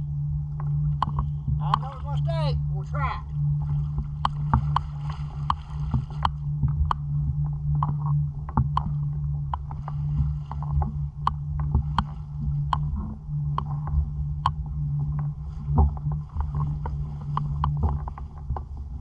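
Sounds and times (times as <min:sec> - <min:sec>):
muffled water sloshing rumble: 0:00.0 - 0:19.0.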